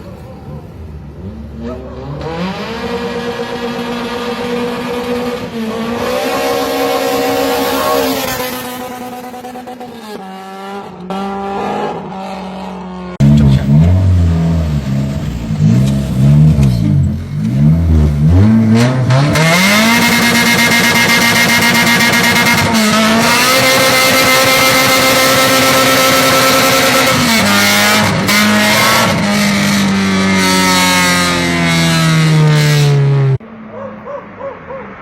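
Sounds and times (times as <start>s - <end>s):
car engine revving hard: 1.2s - 33.4s.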